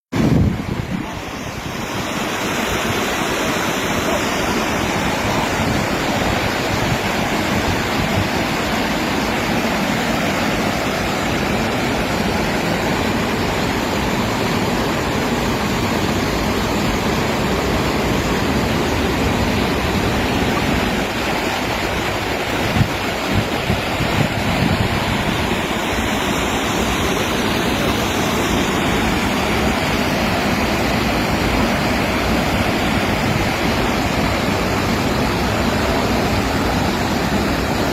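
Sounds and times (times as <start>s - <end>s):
water rushing over weir: 0.1s - 37.9s.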